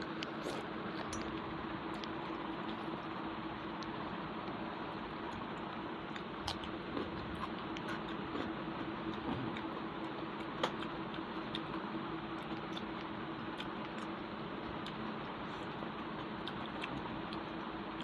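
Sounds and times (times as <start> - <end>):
person chewing: 0.0 - 18.0.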